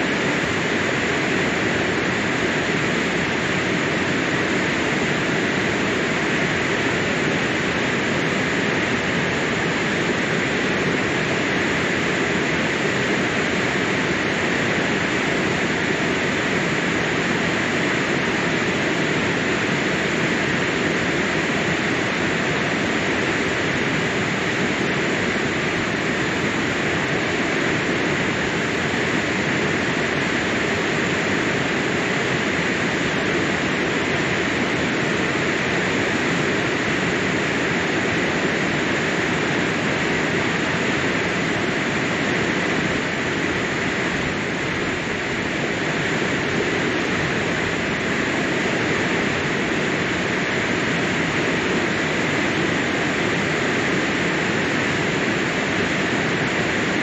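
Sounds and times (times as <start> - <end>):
water rushing over dam: 0.0 - 57.0.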